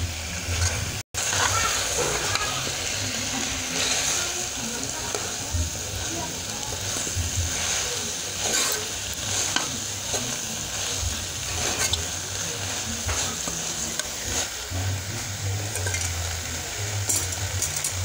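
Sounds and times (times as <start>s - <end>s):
pot hissing: 0.0s - 18.0s.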